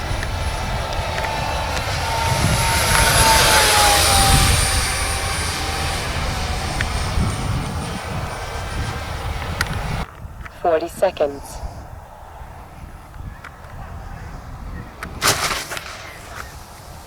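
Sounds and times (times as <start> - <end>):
low wind rumble: 0.0 - 17.0
model jet fan whining past: 0.0 - 17.0.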